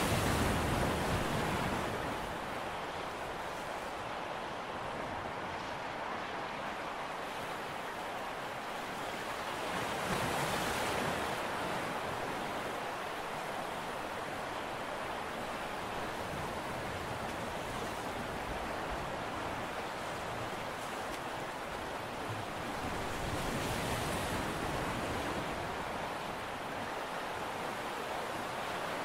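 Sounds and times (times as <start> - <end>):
wind and sea water rushing: 0.0 - 29.0.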